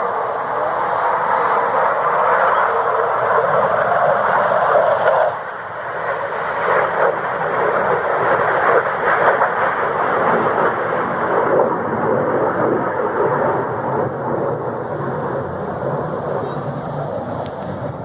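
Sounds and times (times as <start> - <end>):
aircraft engine roar: 0.0 - 18.0.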